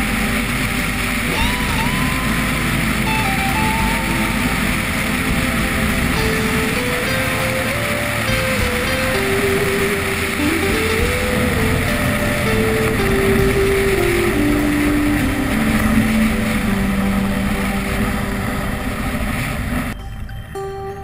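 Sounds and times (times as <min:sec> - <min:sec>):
light aircraft engine and propeller: 0:00.0 - 0:20.0
slow background music: 0:00.0 - 0:21.0
wind noise: 0:00.0 - 0:21.0.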